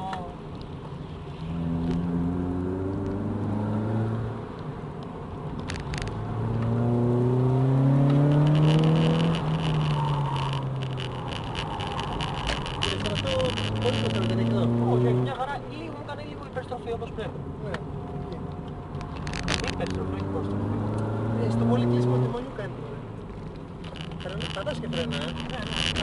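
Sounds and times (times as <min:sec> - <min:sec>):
car engine revving: 0:01.2 - 0:04.9, 0:05.5 - 0:17.2, 0:18.4 - 0:26.0.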